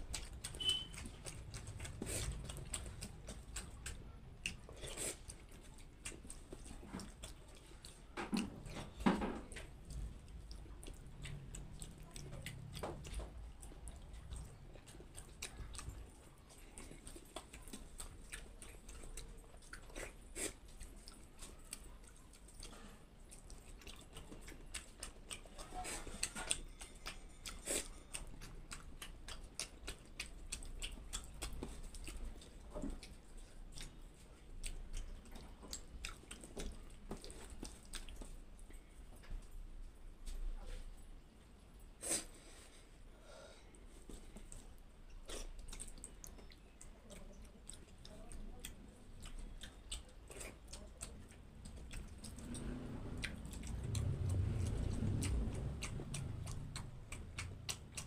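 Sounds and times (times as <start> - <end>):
fingers squelching wet food: 0.0 - 39.4, 44.2 - 58.0
person chewing: 0.0 - 58.0.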